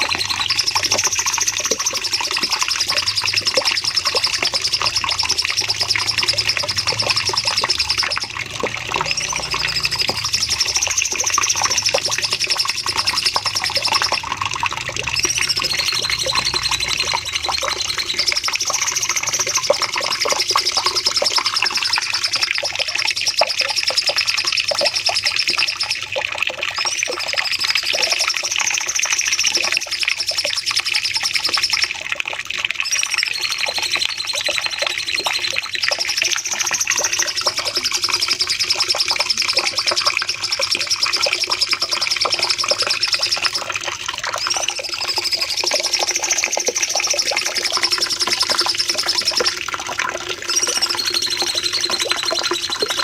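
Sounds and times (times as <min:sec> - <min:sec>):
bird rapid trilled song: 0:00.0 - 0:26.1, 0:32.8 - 0:49.6, 0:50.2 - 0:53.0.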